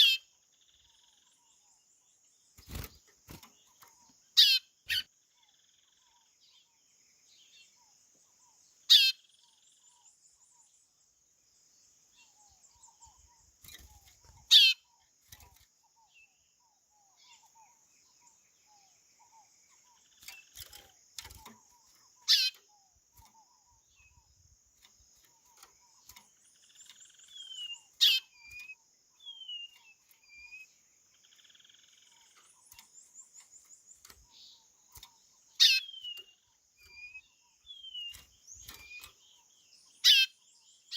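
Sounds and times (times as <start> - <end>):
soft bird chirps and whistles: 0.0 - 11.0, 12.0 - 40.9.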